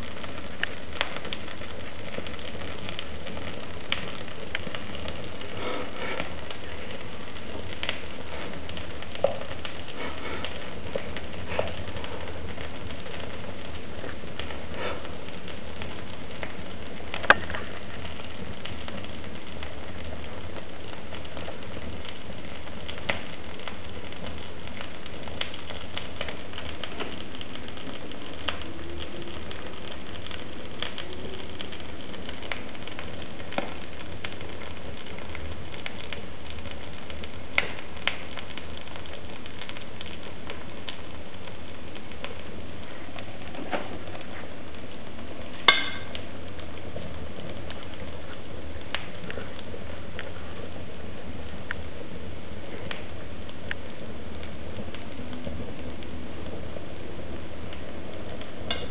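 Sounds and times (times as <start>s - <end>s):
fire burning with pops and crackles: 0.0s - 58.9s.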